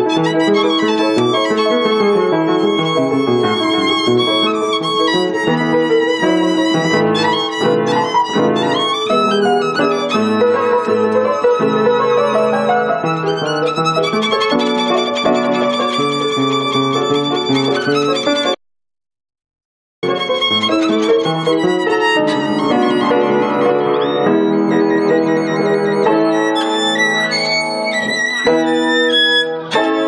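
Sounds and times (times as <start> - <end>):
piano accompaniment: 0.0 - 18.6, 20.0 - 30.0
violin melody with vibrato: 0.0 - 18.6, 20.0 - 30.0.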